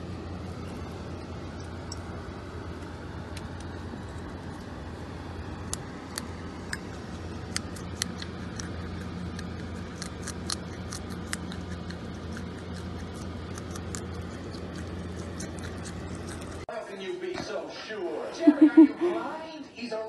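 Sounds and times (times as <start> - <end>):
animal crunching carrot: 0.0 - 16.7
steady low hum: 0.0 - 19.6.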